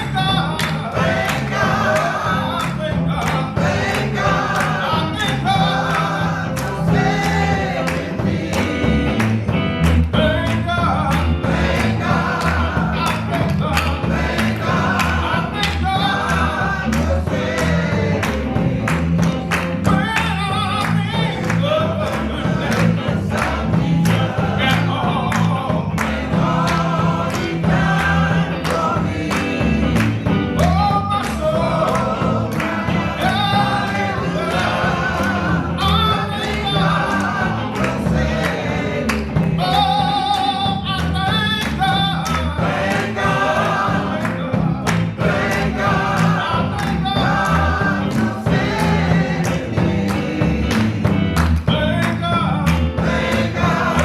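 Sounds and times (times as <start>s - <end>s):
choir singing gospel: 0.0s - 54.0s
instrumental accompaniment with beat: 0.0s - 54.0s.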